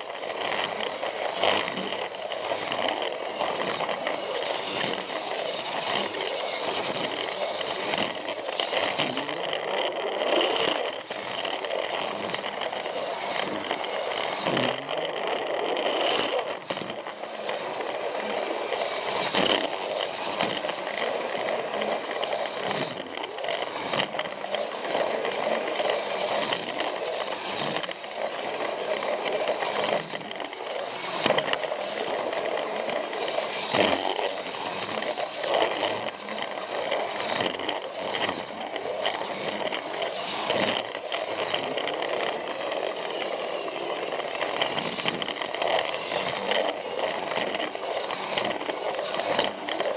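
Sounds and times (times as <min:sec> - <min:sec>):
toy train motor whine: 0:00.0 - 0:49.9
wheels clicking at track joints: 0:00.0 - 0:49.9
wheels rattling over plastic track: 0:00.0 - 0:49.9.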